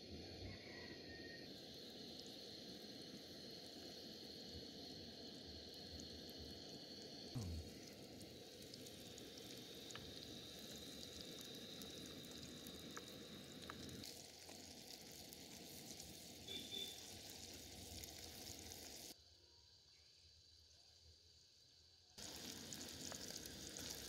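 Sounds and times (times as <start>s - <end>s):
onions sizzling in hot oil: 1.2s - 19.2s, 20.4s - 24.0s.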